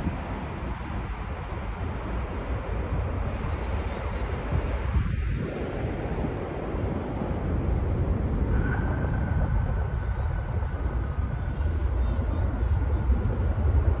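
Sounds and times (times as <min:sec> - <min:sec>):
faint jet engine whine: 0:00.0 - 0:14.0
jet engine rumble: 0:00.0 - 0:14.0
wind on microphone: 0:00.0 - 0:14.0.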